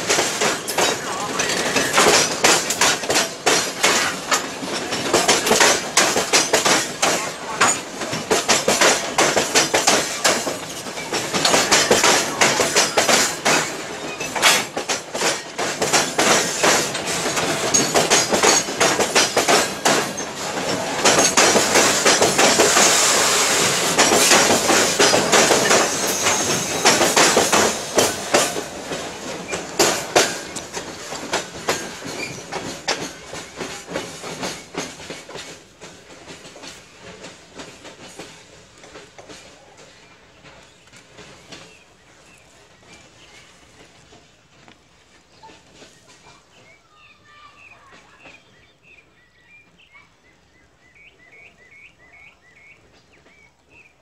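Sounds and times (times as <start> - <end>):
train wheels clattering over rail joints: 0.0 - 49.9.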